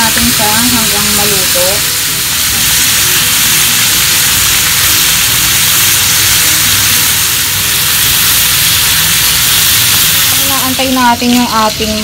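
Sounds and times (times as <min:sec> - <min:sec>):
pork sizzling in frying pan: 0:00.0 - 0:12.0.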